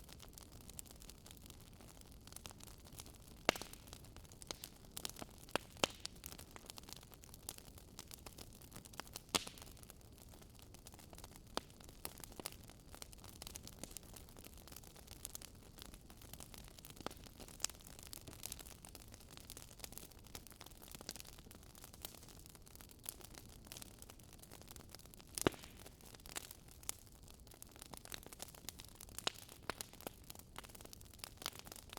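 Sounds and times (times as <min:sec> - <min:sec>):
wood fire crackling and popping: 0:00.0 - 0:31.9.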